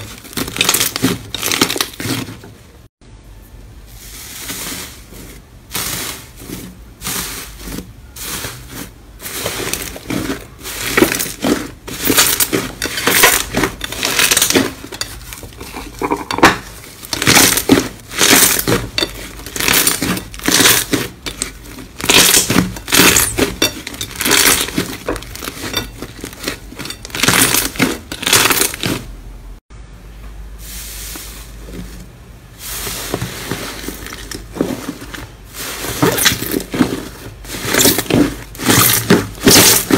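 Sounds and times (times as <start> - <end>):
foil crinkling and crackling: 0.0 - 2.6, 4.1 - 15.8, 16.6 - 29.1, 32.6 - 39.9
slime squishing: 0.0 - 2.8, 4.0 - 16.0, 16.6 - 29.1, 31.1 - 39.9.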